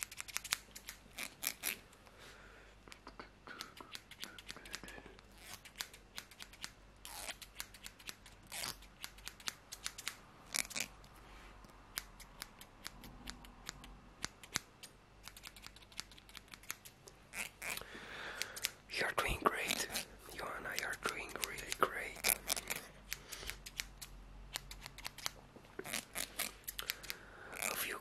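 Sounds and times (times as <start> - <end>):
scissors snipping: 0.0 - 1.8, 3.6 - 10.9, 11.9 - 17.8, 18.4 - 18.8, 20.7 - 27.8.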